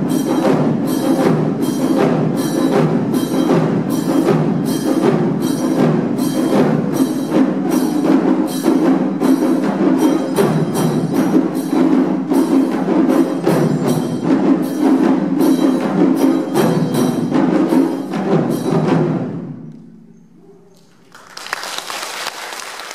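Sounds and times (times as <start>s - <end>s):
taiko drums beating: 0.0s - 21.0s.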